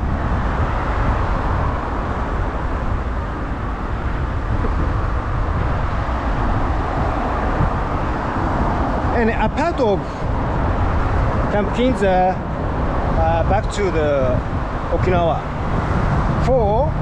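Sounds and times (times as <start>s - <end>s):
highway traffic roar: 0.0s - 17.0s.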